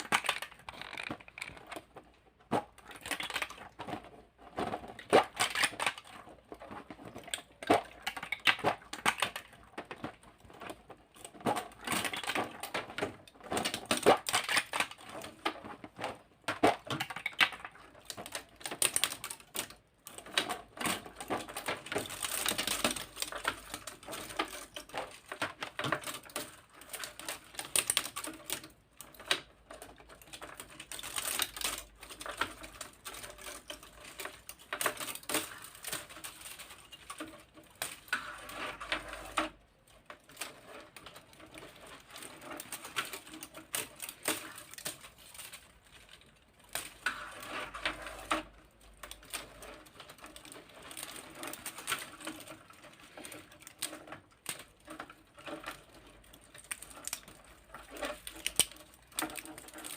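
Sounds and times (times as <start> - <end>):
plastic parts clicking: 0.0 - 59.9.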